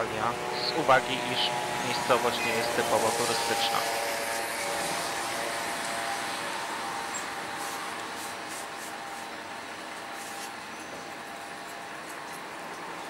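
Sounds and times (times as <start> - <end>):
city street ambience: 0.0 - 13.0.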